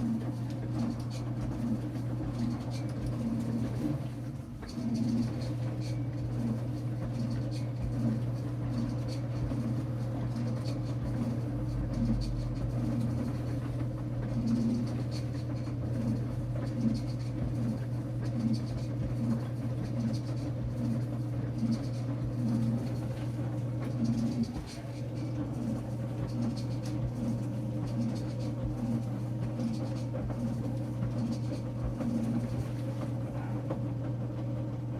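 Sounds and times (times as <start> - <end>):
washing machine running: 0.0 - 34.9.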